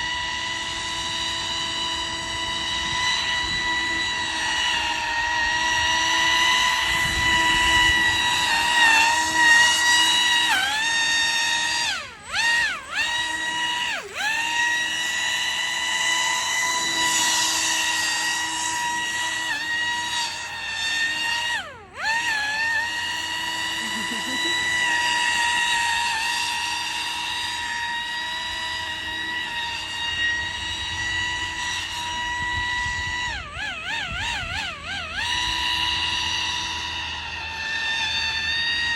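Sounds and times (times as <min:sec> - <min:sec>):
rc airboat motor whining: 0:00.0 - 0:38.9.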